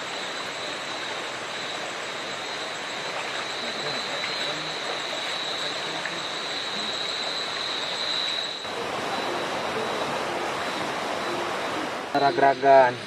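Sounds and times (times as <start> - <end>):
insect trill: 0.0 - 13.0
stream water flowing: 0.0 - 13.0.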